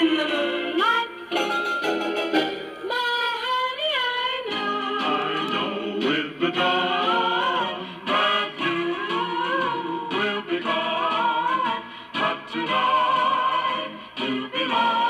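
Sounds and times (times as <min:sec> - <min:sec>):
vocal record on small speaker: 0:00.0 - 0:01.4, 0:02.8 - 0:15.0.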